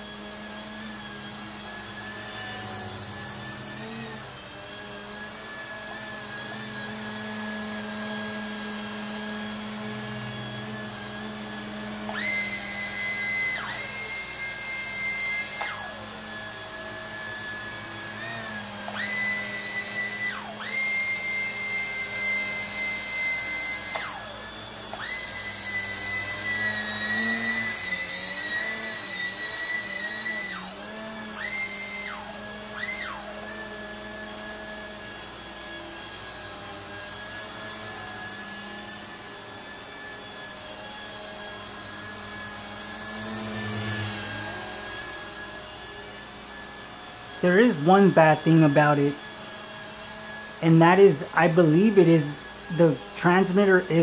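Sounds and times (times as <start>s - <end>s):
toy helicopter motor whine: 0.0s - 54.0s.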